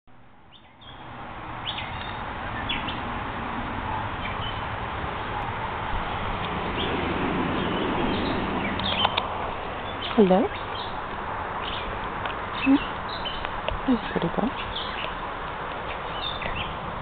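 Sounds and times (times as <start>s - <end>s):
steady outdoor hiss: 0.1s - 17.0s.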